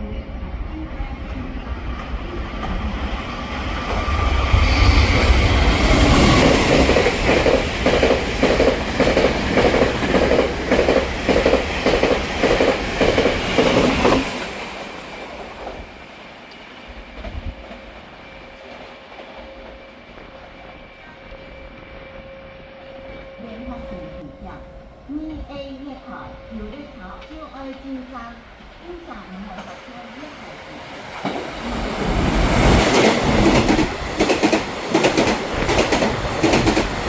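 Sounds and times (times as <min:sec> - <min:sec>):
train rumbling past: 0:00.0 - 0:37.0
train wheels clickety-clack: 0:01.9 - 0:21.7, 0:26.7 - 0:37.0.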